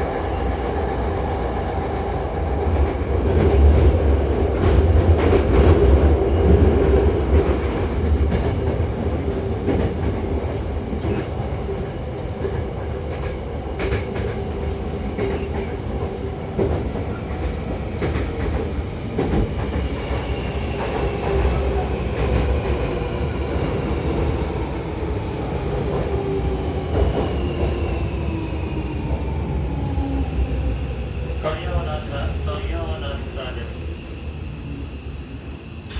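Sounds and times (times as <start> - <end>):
train rumbling: 0.0 - 35.9.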